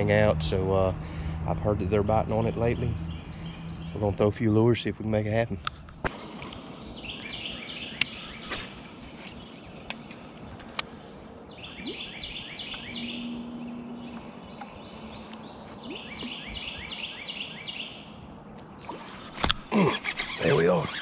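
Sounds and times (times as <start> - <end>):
outdoor background noise: 0.0 - 21.0
songbird singing: 0.0 - 21.0.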